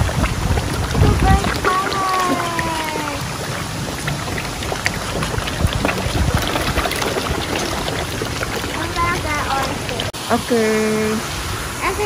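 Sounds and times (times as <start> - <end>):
fish splashing at water surface: 0.0 - 10.2.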